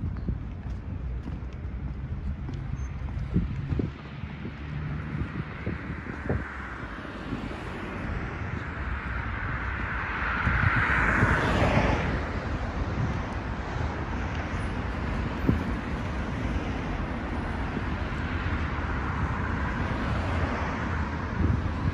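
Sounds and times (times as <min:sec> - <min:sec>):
street traffic passing: 0:00.0 - 0:21.9.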